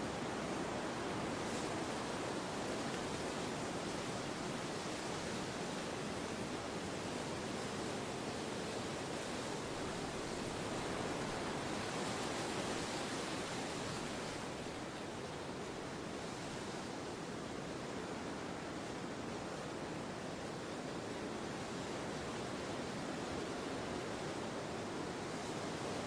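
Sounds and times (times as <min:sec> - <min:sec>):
steady wind: 0:00.0 - 0:26.0.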